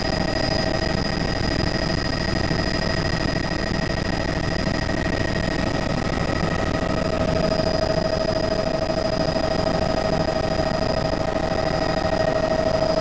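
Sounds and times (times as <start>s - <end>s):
helicopter engine and rotors drone: 0.0s - 13.0s
high constant whining tones: 0.0s - 13.0s.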